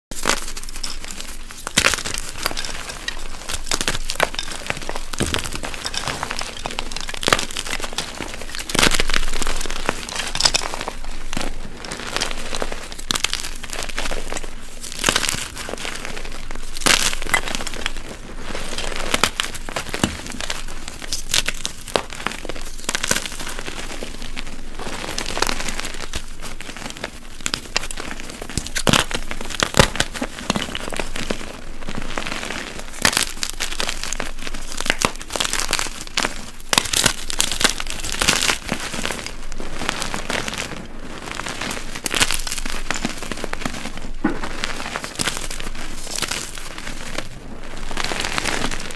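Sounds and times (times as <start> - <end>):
chalk crunching and crumbling: 0.1 - 48.9.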